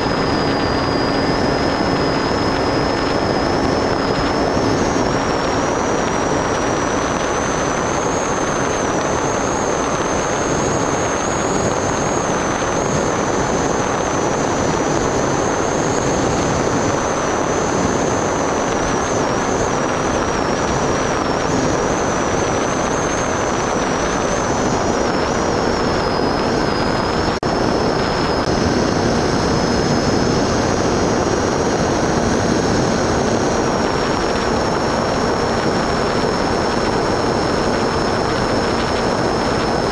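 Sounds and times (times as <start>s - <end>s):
model aircraft motor whine: 0.0s - 39.9s
rush of air: 0.0s - 39.9s.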